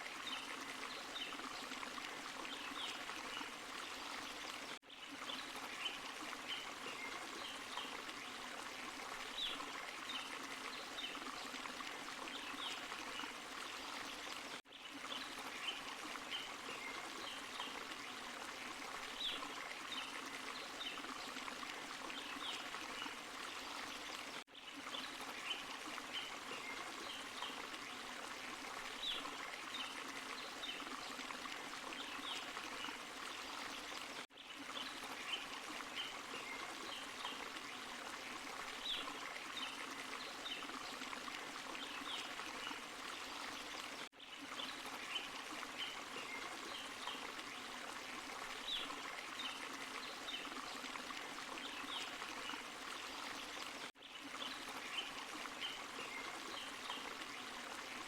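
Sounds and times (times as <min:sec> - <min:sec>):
water splashes and trickles: 0:00.0 - 0:58.0.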